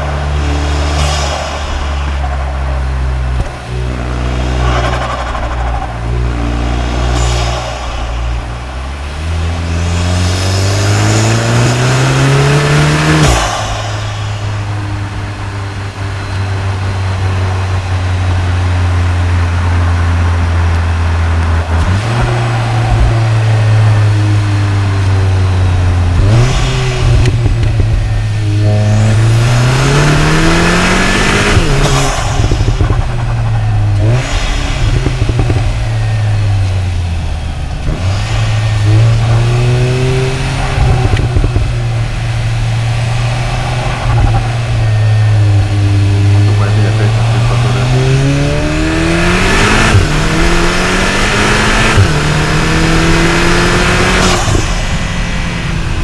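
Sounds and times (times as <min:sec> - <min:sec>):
car engine revving: 0:00.0 - 0:56.0
engine intake rush: 0:00.0 - 0:56.0.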